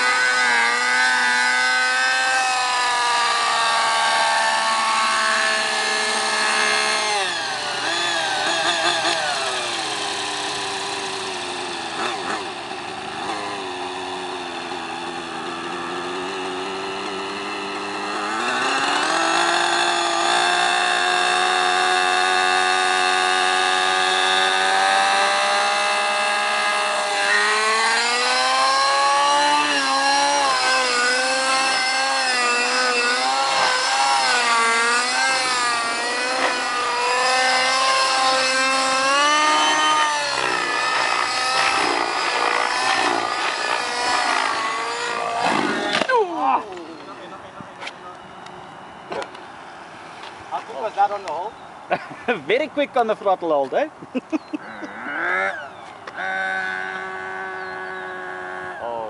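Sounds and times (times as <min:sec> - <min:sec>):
model helicopter engine revving: 0:00.0 - 0:47.4, 0:54.6 - 0:59.0.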